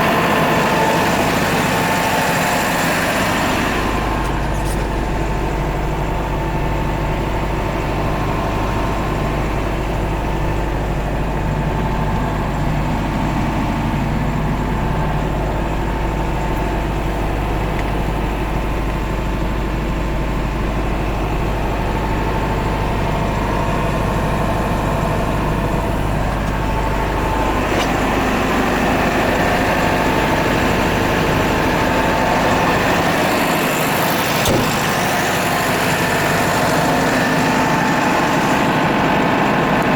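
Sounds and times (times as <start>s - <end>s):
heavy engine idling: 0.0s - 39.9s.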